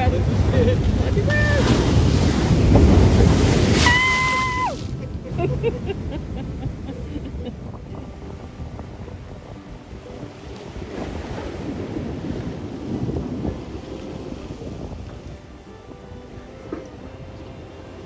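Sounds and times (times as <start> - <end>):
waves breaking over rocks: 0.0 - 6.8, 7.6 - 15.6
wind buffeting microphone: 0.0 - 18.0.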